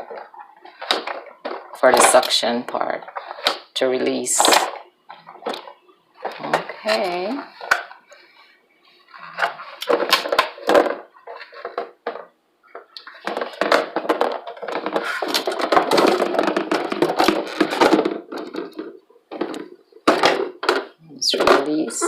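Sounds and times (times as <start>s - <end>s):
plastic parts clattering: 0.0s - 22.0s
plastic parts clicking and knocking: 0.0s - 22.0s.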